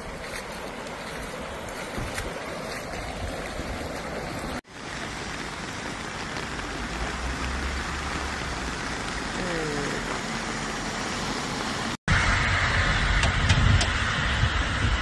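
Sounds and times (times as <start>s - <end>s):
floodwater rushing: 0.0s - 13.3s
rain: 0.0s - 15.0s.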